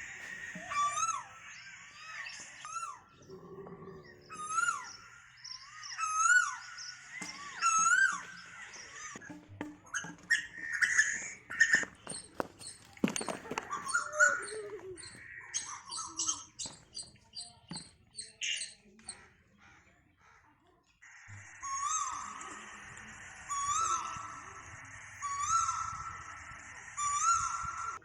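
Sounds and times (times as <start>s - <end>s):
sharp high bird calls: 0.0s - 19.3s, 21.0s - 28.0s
birds chirping and squawking: 0.0s - 28.0s.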